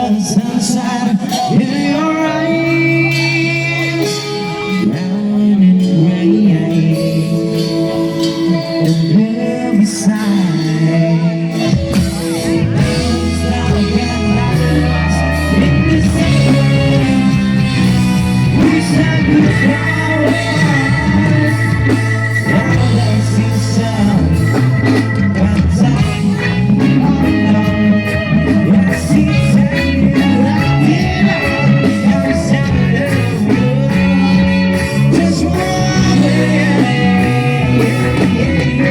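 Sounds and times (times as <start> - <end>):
bass guitar: 0.0 - 38.9
live band playing: 0.0 - 38.9
man singing: 0.0 - 38.9.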